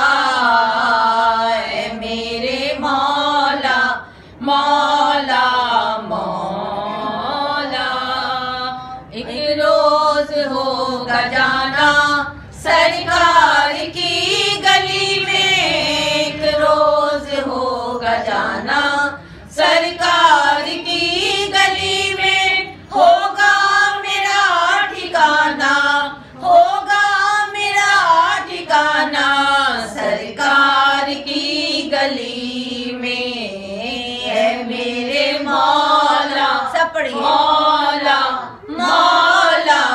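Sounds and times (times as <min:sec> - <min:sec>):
women singing unaccompanied: 0:00.0 - 0:39.9.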